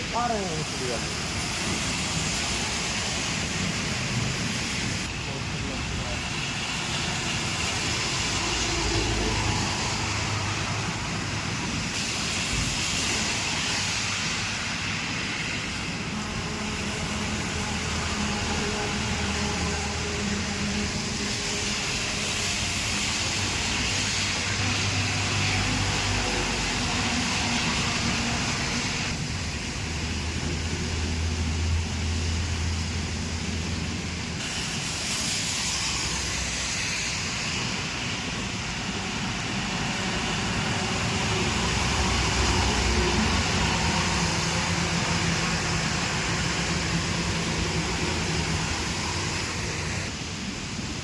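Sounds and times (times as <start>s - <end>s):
vehicle engines passing: 0.0s - 12.5s, 13.5s - 34.6s, 35.6s - 50.2s.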